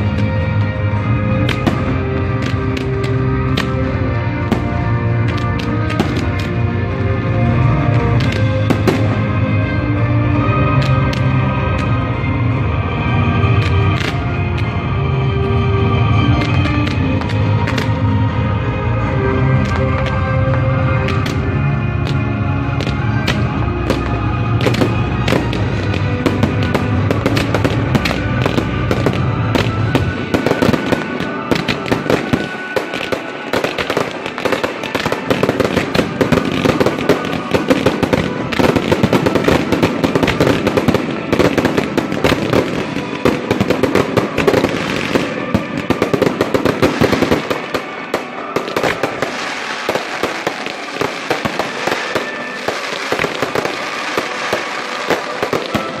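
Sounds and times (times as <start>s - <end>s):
fireworks cracking and popping: 0.0s - 6.7s, 7.8s - 9.4s, 10.7s - 12.0s, 13.5s - 14.8s, 16.3s - 18.1s, 19.6s - 56.0s
music playing: 0.0s - 56.0s.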